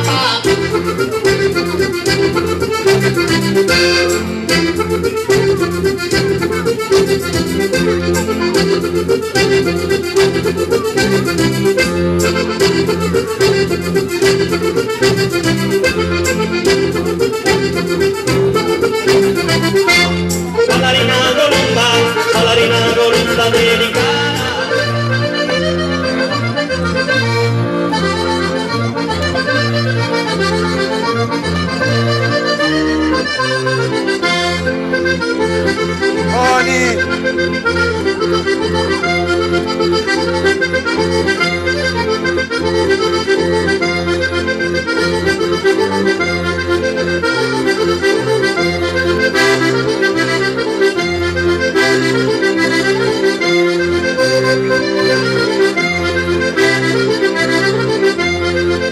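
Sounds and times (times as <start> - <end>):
accordion playing dance tune: 0.0 - 58.9.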